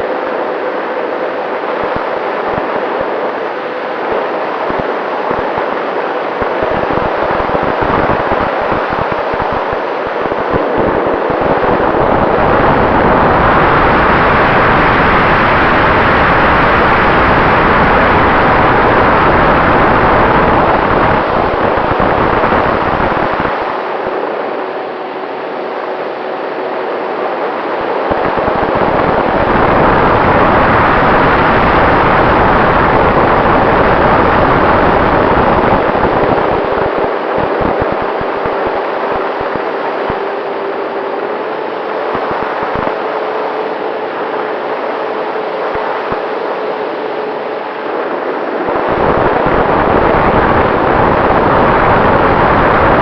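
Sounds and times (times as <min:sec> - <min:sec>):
electric ducted fan rushing: 0:00.0 - 0:53.0
wind buffeting on microphone: 0:04.0 - 0:24.7, 0:27.7 - 0:53.0.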